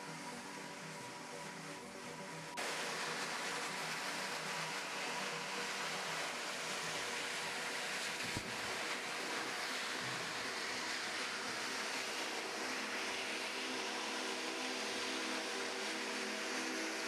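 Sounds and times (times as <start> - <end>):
dog grooming dryer blowing air: 2.6 - 17.0.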